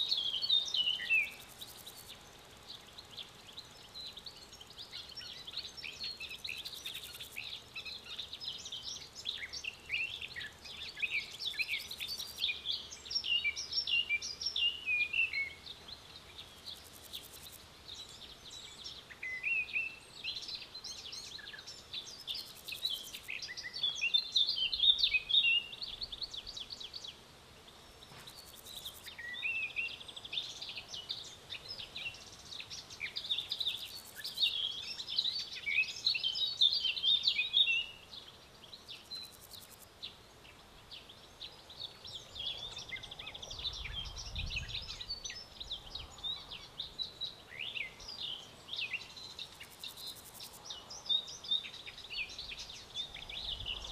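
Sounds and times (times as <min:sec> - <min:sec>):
songbirds chirping: 0:00.0 - 0:53.9.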